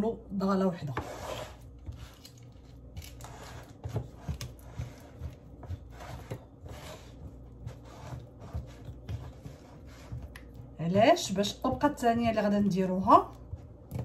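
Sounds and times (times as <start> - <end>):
spatula scraping chocolate mixture: 0.4 - 14.0.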